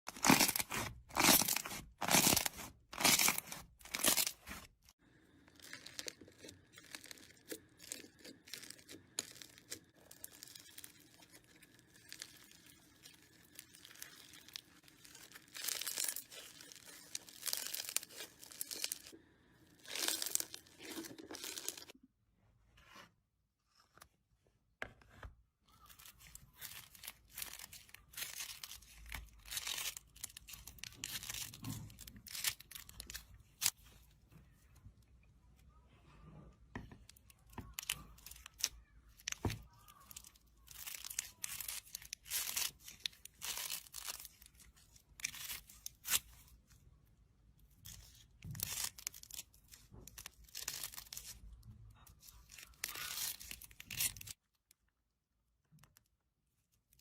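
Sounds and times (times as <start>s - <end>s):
slime squishing and crackling: 0.1s - 19.2s, 19.8s - 22.0s, 25.7s - 34.8s, 37.0s - 47.0s, 47.6s - 54.4s.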